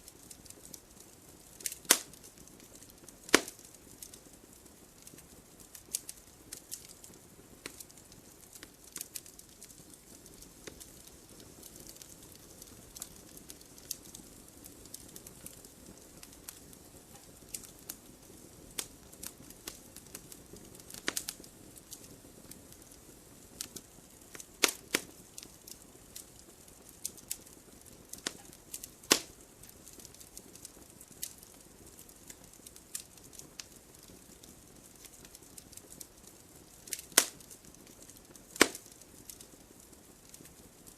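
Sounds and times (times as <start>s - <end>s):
soft hiss of flames: 0.0s - 40.9s
wood fire crackling: 0.0s - 40.9s
sharp pops and snaps: 0.1s - 4.2s, 5.0s - 39.5s.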